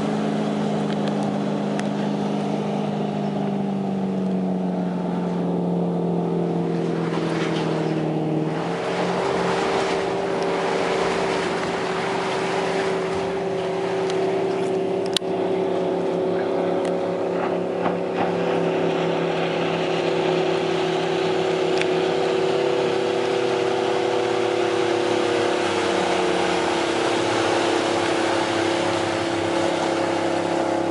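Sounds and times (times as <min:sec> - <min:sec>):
boat engine running: 0:00.0 - 0:30.9
rush of water and wind: 0:00.0 - 0:30.9.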